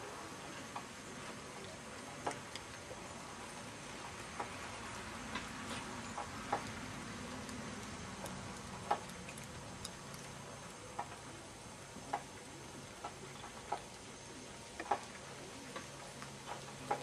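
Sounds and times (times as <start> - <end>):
steady low hiss: 0.0 - 17.0
horse hooves and tack clicking: 0.6 - 17.0.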